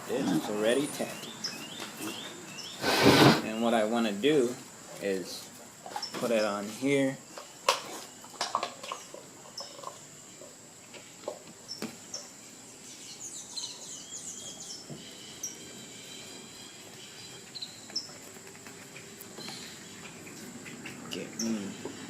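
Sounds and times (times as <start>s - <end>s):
small birds chirping: 0.1s - 22.0s
steady high-pitched whine: 3.4s - 22.0s.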